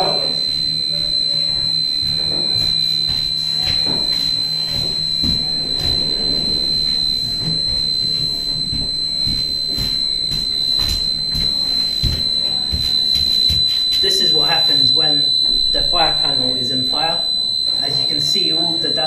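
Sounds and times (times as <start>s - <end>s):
high-pitched alarm buzzer tone: 0.0s - 19.0s.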